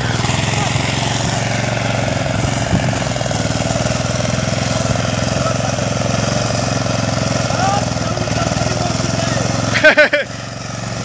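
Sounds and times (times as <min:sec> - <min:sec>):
tractor engine puttering: 0:00.0 - 0:11.0.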